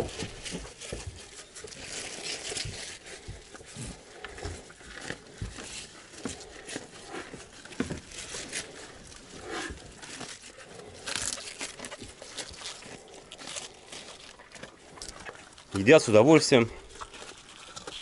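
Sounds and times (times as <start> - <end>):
bulls chewing leaves: 0.0 - 18.0.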